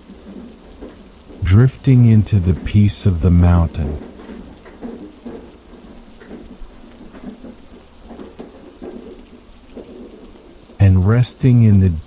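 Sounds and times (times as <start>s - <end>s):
faint taps: 0.0s - 10.8s
heavy rain hiss: 0.0s - 12.0s.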